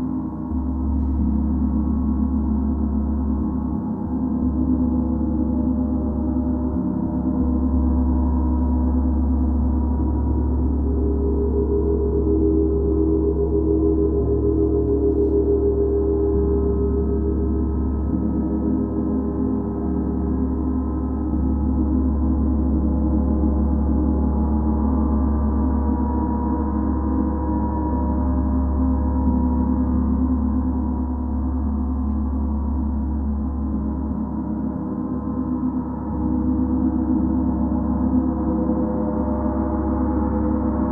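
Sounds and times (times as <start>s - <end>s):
gong humming with overtones: 0.0s - 40.9s.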